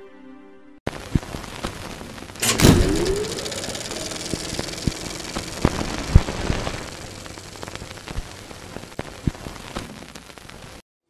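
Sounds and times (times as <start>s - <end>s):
film crackle clicks and pops: 1.0s - 10.8s
steady hiss: 1.0s - 10.8s.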